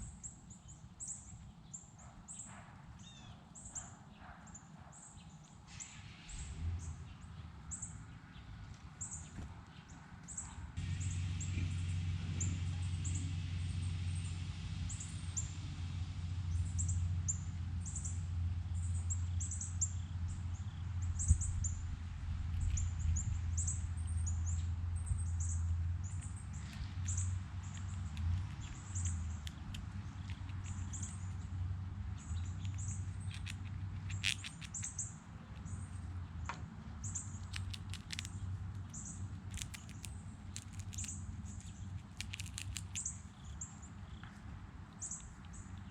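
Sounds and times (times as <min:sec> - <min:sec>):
small birds chirping: 0:00.0 - 0:15.6, 0:16.5 - 0:45.9
low steady rumble: 0:05.5 - 0:45.9.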